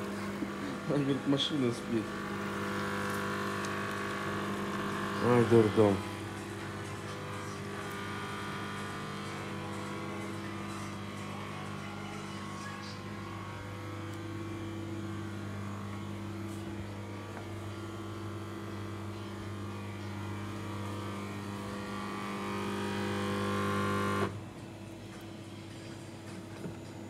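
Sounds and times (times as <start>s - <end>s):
machine buzzing hum: 0.0s - 25.0s.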